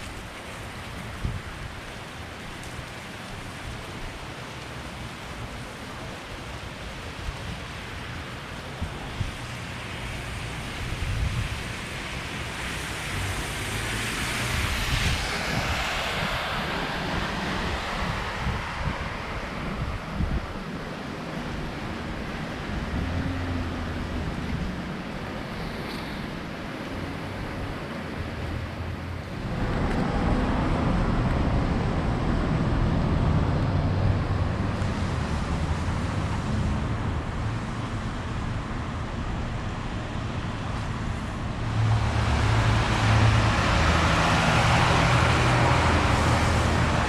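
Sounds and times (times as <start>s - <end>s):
heavy rain hissing on street: 0.0s - 47.0s
tyres swishing on wet road: 0.0s - 47.0s
wind rumble on microphone: 0.0s - 47.0s.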